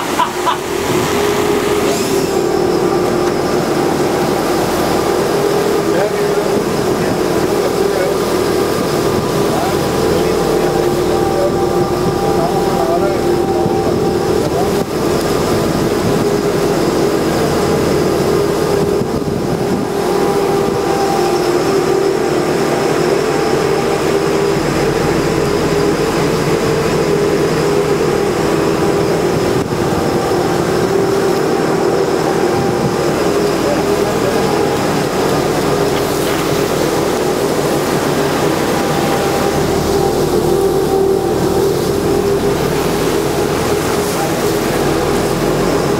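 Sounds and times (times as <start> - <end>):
boat engines droning: 0.0 - 45.9.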